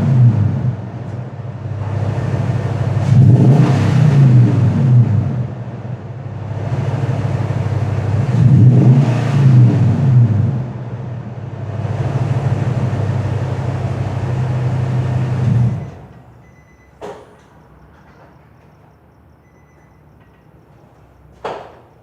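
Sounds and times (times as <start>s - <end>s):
truck engine idling and revving: 0.0s - 22.0s.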